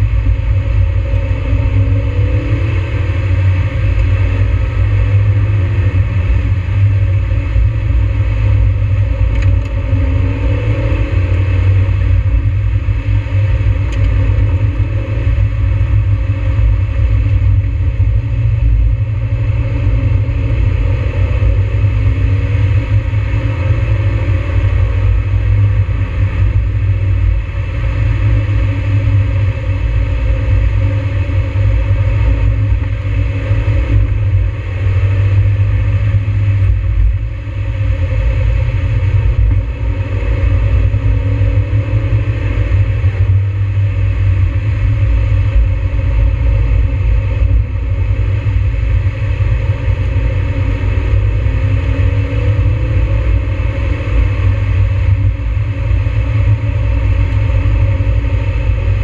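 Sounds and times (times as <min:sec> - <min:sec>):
low road rumble: 0:00.0 - 0:59.0.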